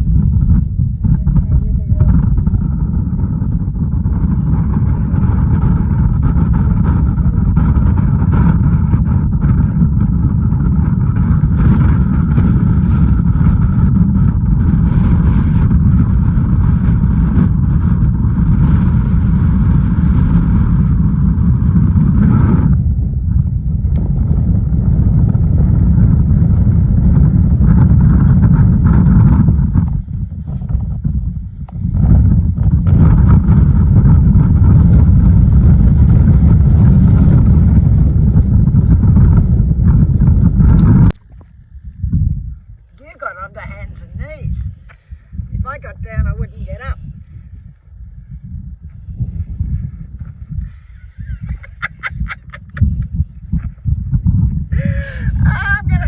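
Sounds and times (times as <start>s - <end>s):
strong wind buffeting microphone: 0.0s - 56.0s.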